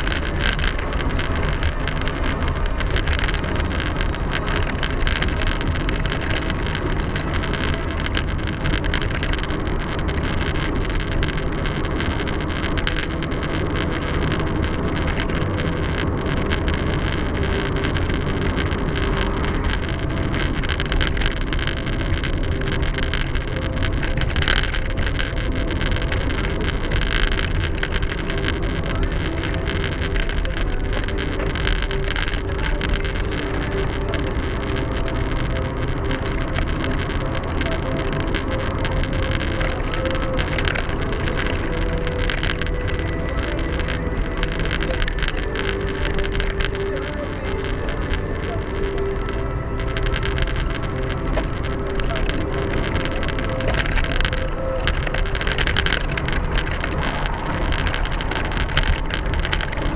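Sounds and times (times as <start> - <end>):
vehicle rumbling: 0.0 - 59.9.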